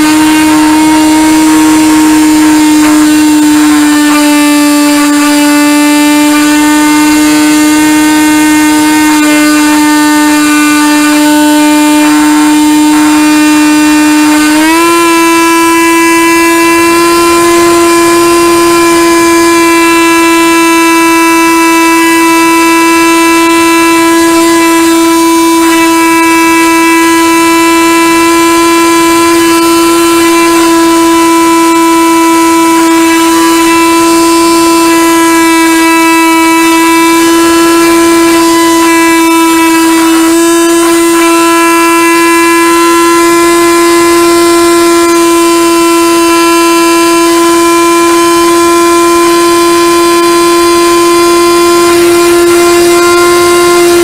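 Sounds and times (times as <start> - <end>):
model airplane motor droning: 0.0 - 54.0.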